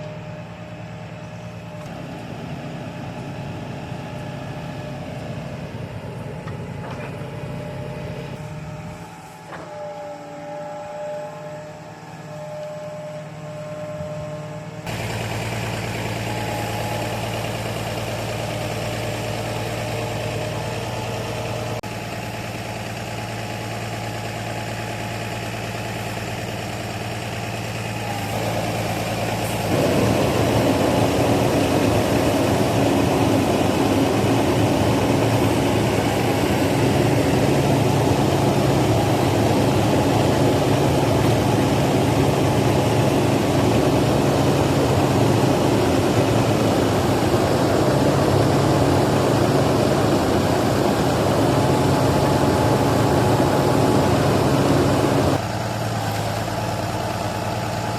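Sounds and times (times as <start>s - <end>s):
heavy machinery engine running: 0.0s - 57.9s.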